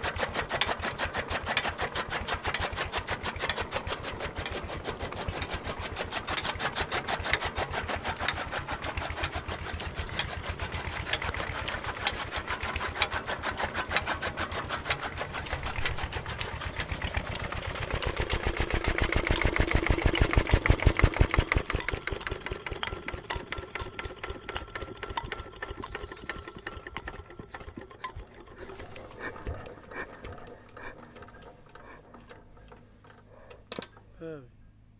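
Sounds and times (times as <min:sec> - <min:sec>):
diesel engine clattering: 0:00.0 - 0:34.1.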